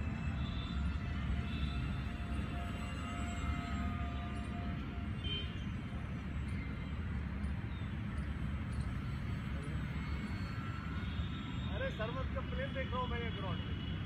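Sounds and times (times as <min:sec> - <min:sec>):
model plane electric motor whine: 0:00.0 - 0:11.6.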